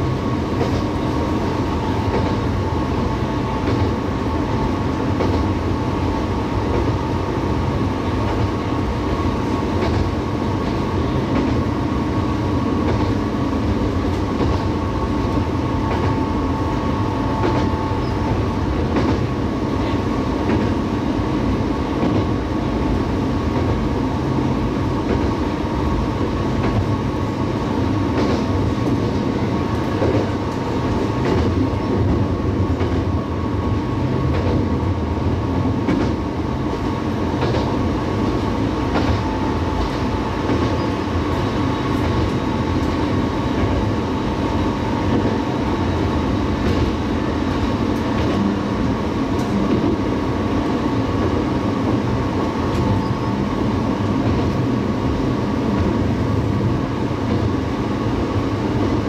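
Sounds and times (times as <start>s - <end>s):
diesel railcar engine drone: 0.0s - 59.0s.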